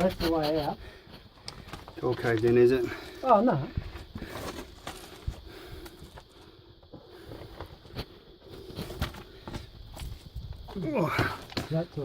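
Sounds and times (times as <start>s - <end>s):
footsteps on loose rock: 0.0s - 6.4s, 7.2s - 12.0s.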